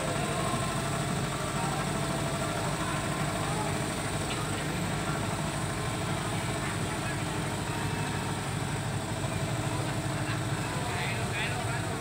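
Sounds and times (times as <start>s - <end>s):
engine idling: 0.0s - 12.0s
faint voices: 0.0s - 12.0s.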